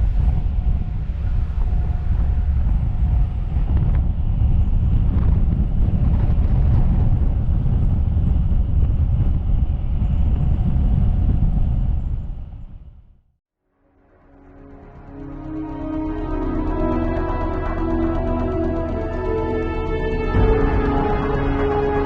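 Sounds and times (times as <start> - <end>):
loud low rumbling: 0.0 - 13.1, 14.3 - 22.0.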